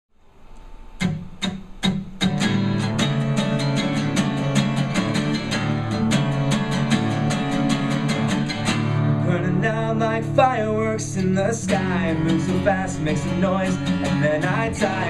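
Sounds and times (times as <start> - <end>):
acoustic guitar strumming: 1.0 - 15.0.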